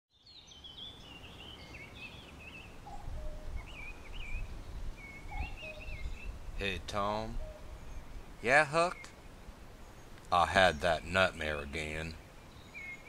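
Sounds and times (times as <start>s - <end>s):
birds singing: 0.1s - 13.0s
low outdoor hum: 0.2s - 13.0s.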